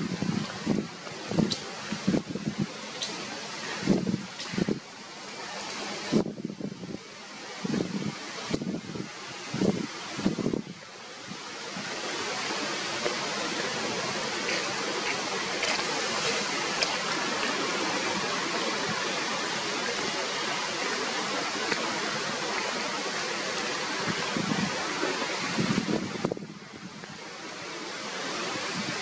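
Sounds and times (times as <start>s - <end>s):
rushing hiss of outdoor noise: 0.0s - 29.0s.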